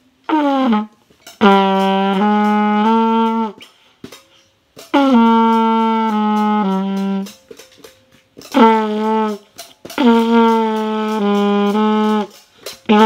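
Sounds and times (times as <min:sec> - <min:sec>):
trumpet playing slow notes: 0:00.0 - 0:03.7, 0:04.8 - 0:07.7, 0:08.4 - 0:13.0.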